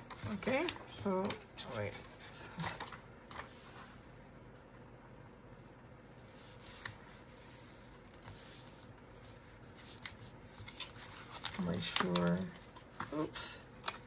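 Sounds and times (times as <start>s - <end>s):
paper rustling: 0.0s - 4.0s, 6.2s - 14.0s.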